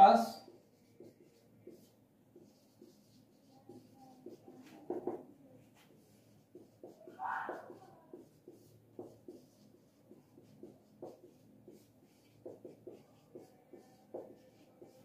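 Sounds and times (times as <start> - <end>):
marker writing on whiteboard: 0.0 - 15.0.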